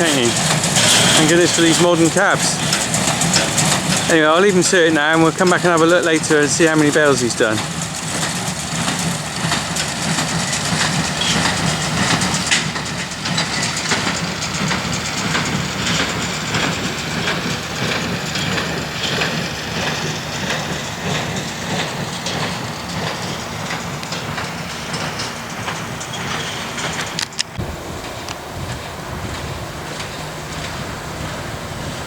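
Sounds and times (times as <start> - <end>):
baler mechanical clatter: 0.0 - 32.0
tractor engine drone: 0.0 - 32.0.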